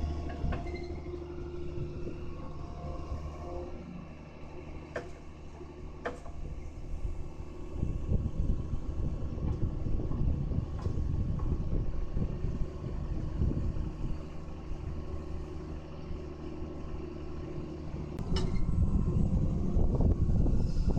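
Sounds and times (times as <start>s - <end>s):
excavator diesel engine running: 0.0s - 20.9s
hydraulics working: 0.0s - 20.9s.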